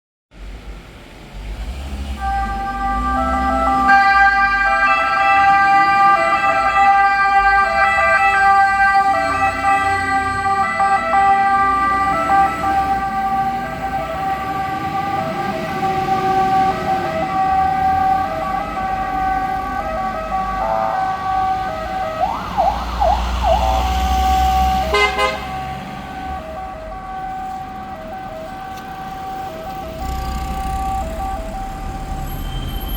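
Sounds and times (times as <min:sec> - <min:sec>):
low rising and falling siren tone: 0:02.2 - 0:32.9
rapid yelp siren: 0:02.2 - 0:32.9
two-tone siren: 0:02.2 - 0:32.9.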